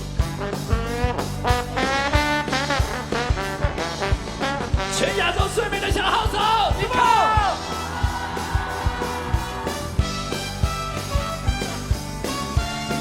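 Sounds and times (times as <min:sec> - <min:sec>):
bass groove: 0:00.0 - 0:13.0
brass solo: 0:00.0 - 0:13.0
drum beat: 0:02.2 - 0:13.0.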